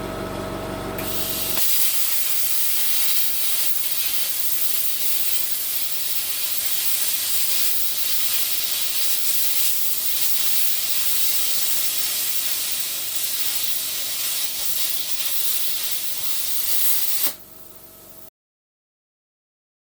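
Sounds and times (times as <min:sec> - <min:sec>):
plasma cutter torch hissing: 0:01.0 - 0:18.3.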